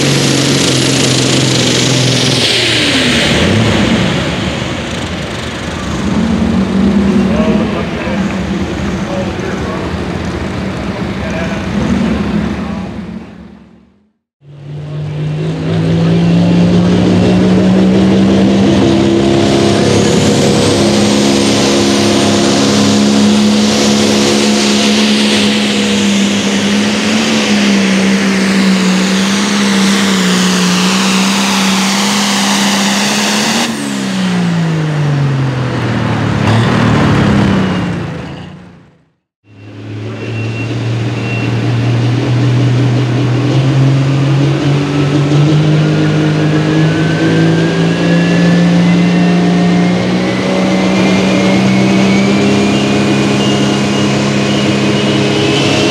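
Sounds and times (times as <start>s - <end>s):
other tractor engines: 0.0s - 55.9s
tractor engine running flat out: 0.0s - 55.9s.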